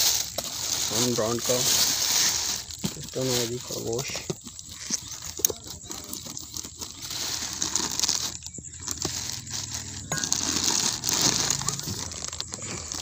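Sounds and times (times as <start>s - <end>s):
plastic and cardboard crinkling: 0.0s - 13.0s.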